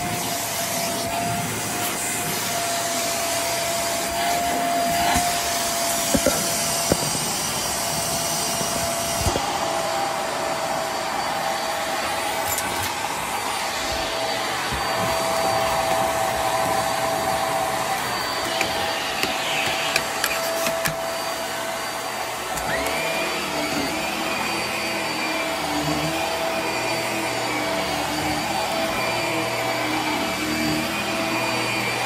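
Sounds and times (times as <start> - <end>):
vacuum cleaner running on carpet: 0.0 - 32.0.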